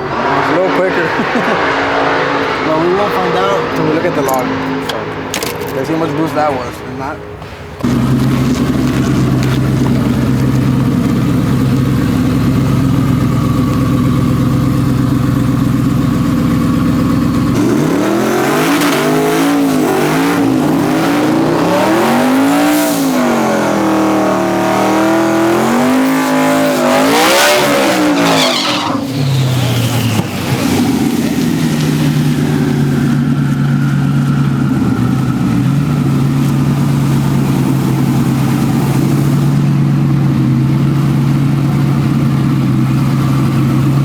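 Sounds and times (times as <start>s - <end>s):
drag racing engine revving: 0.0s - 13.6s, 14.3s - 44.0s.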